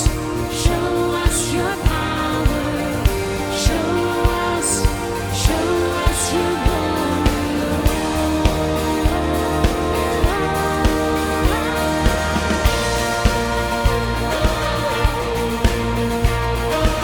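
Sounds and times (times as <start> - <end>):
band playing: 0.0 - 17.0
drum beat with cymbals: 0.0 - 17.0.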